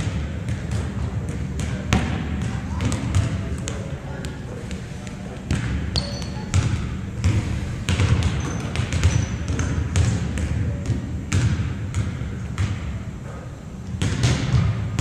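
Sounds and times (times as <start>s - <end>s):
volleyballs bouncing on wooden floor: 0.0s - 13.0s, 13.9s - 15.0s.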